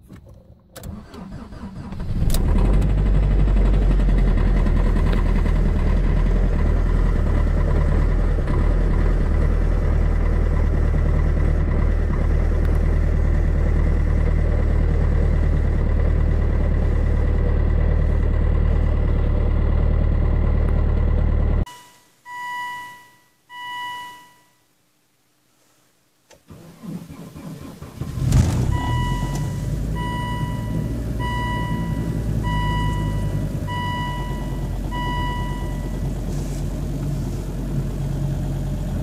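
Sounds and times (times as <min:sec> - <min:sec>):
diesel engine starting and idling: 0:00.0 - 0:21.7, 0:26.4 - 0:39.0.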